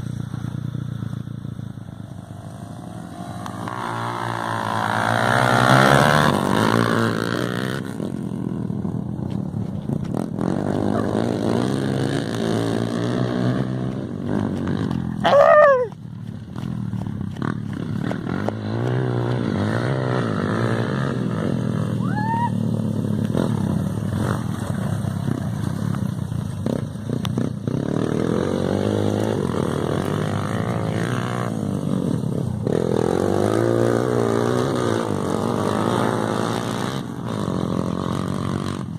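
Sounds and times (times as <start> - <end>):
dirt bike engine revving: 0.0 - 9.1, 9.9 - 38.9.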